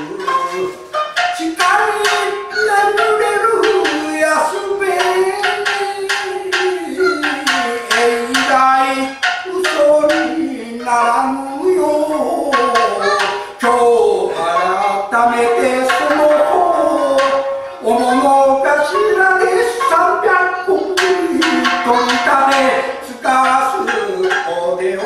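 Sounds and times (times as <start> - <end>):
person singing in wavering voice: 0.0 - 25.0
shamisen plucks: 0.0 - 25.0.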